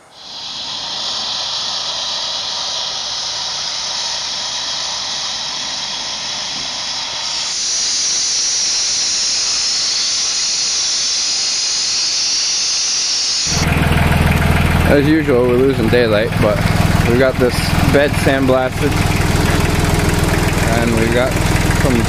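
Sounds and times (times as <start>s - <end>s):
sandblaster hissing: 0.0s - 22.0s.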